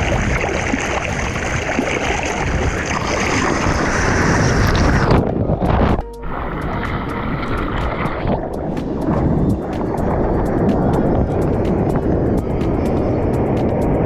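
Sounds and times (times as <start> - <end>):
seawater rushing and churning: 0.0 - 14.0.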